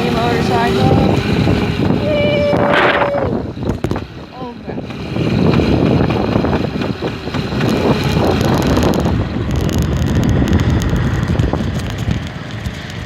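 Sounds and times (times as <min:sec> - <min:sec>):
dirt bike running: 0:00.0 - 0:13.0
wind buffeting microphone: 0:00.0 - 0:13.0.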